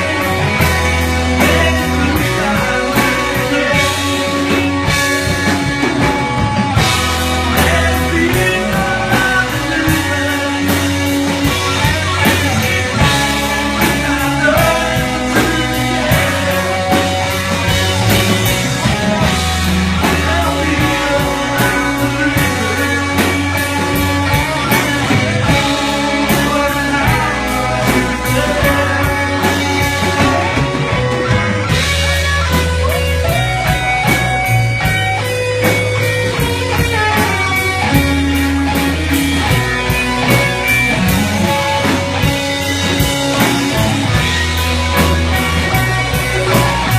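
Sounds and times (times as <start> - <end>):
drum kit beat: 0.0 - 46.9
electric guitar: 0.0 - 46.9.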